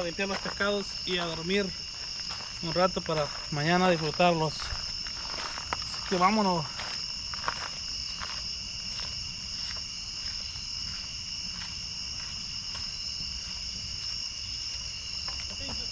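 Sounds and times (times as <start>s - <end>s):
crickets trilling: 0.0s - 15.9s.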